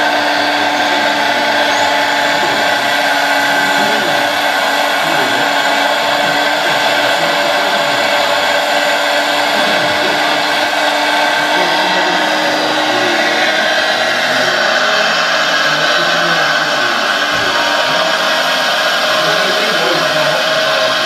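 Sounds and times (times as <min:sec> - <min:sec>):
hydraulic pump running: 0:00.0 - 0:21.0.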